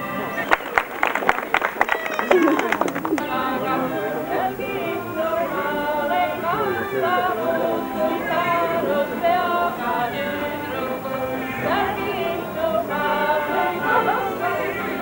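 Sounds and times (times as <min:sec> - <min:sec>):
group of voices singing: 0:02.7 - 0:15.0.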